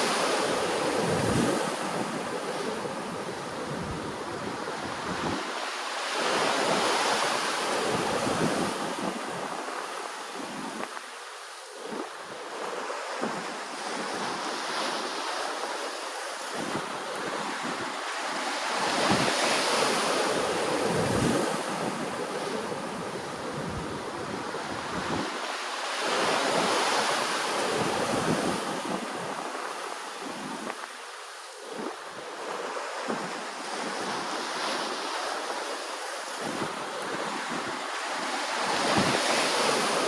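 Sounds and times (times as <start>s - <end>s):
sea waves washing in: 0.0s - 40.0s.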